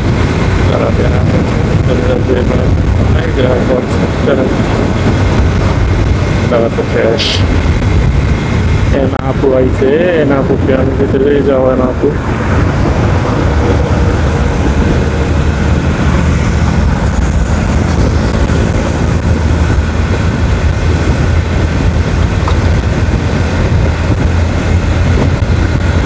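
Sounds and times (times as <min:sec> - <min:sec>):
motorcycle engine drone: 0:00.0 - 0:26.0
wind and road noise rumble: 0:00.0 - 0:26.0.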